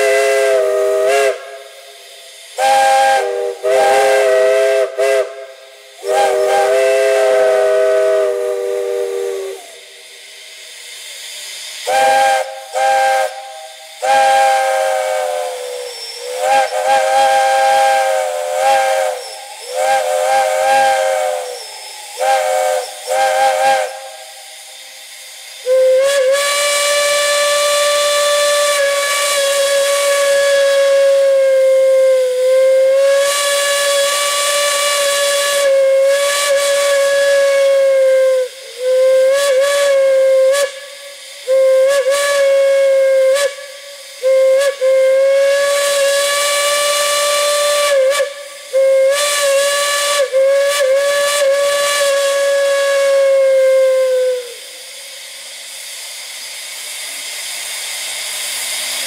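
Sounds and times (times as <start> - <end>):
steam whistle blasts: 0.0 - 59.0.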